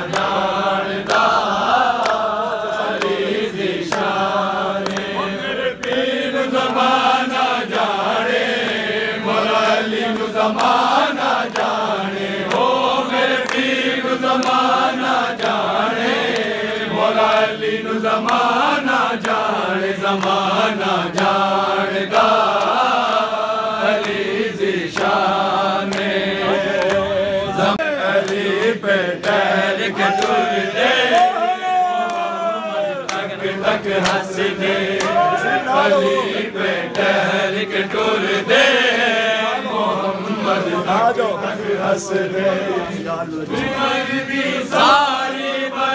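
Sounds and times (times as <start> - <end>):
men chanting together: 0.0 - 45.9.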